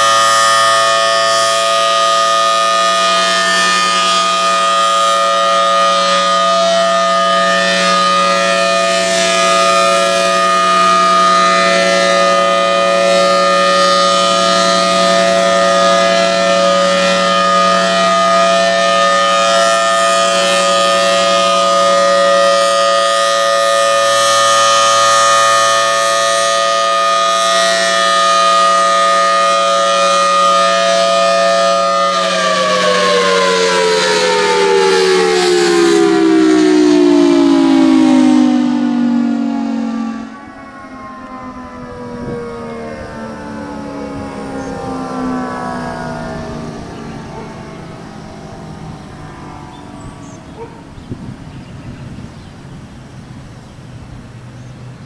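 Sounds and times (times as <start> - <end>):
rotating warning siren: 0.0 - 55.0.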